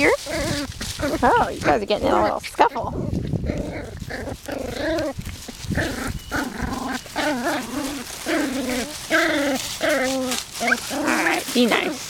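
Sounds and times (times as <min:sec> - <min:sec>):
puppies yapping and growling: 0:00.0 - 0:12.0.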